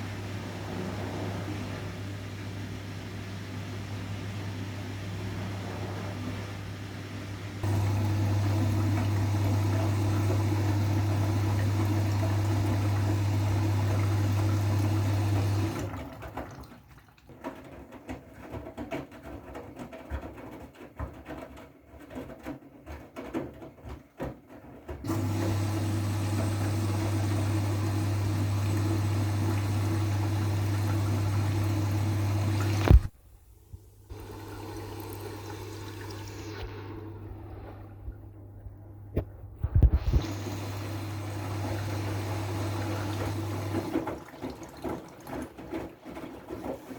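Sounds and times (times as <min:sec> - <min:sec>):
washing machine hum with rushing water: 0:00.0 - 0:33.2, 0:34.1 - 0:46.9
water sloshing in drum: 0:07.6 - 0:33.1, 0:34.1 - 0:46.9.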